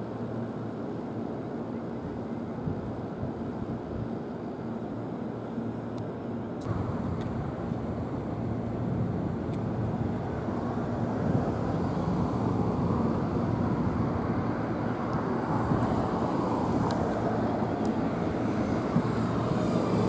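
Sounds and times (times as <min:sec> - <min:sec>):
rail yard and city rumble: 0:00.0 - 0:20.0.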